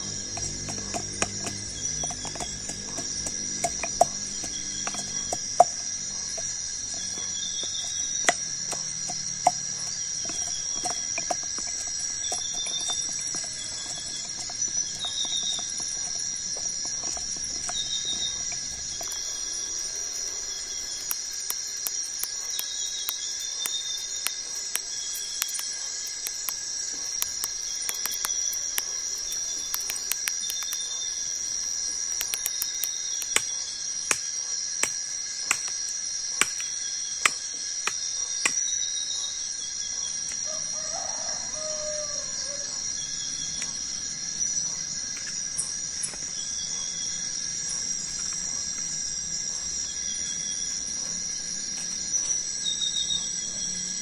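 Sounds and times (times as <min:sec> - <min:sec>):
insects droning and chirping: 0:00.0 - 0:54.0.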